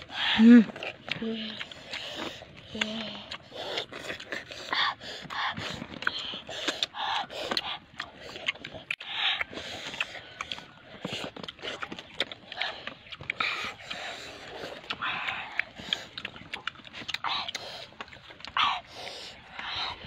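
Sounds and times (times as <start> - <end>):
breathy sniffs and gasps: 0.0 - 11.4, 12.5 - 16.4, 17.2 - 20.0
children chewing and lip-smacking: 0.0 - 20.0.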